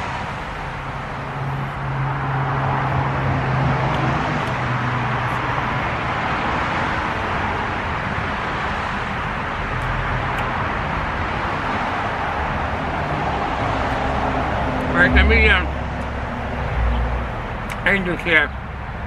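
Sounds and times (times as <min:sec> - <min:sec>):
passing cars: 0:00.0 - 0:19.0
vehicle engine hum: 0:00.0 - 0:19.0.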